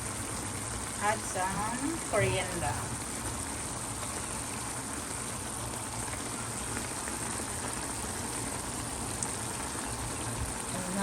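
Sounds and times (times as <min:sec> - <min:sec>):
pot simmering and bubbling: 0:00.0 - 0:11.0.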